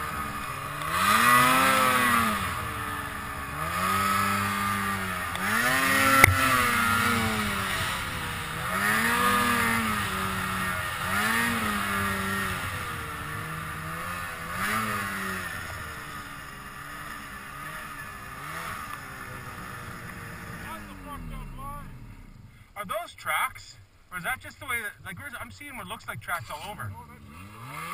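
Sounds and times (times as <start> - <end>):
snowmobile engine revving: 0.0 - 27.9.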